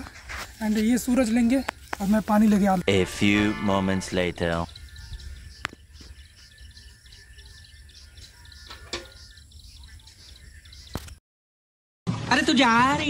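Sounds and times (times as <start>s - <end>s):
insects chirping: 0.0s - 11.1s
birds chirping: 0.0s - 11.2s.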